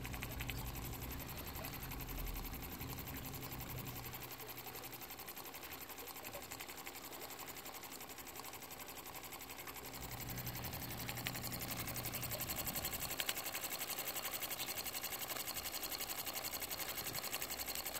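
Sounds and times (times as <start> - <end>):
toy steam engine ticking: 0.0 - 17.9.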